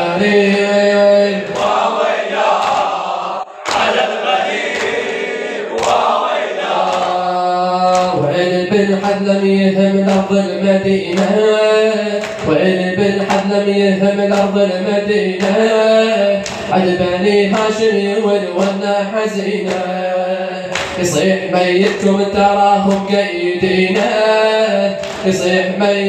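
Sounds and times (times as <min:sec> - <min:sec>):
men chanting together: 0:00.0 - 0:26.0
rhythmic chest-beating slaps: 0:00.2 - 0:26.0.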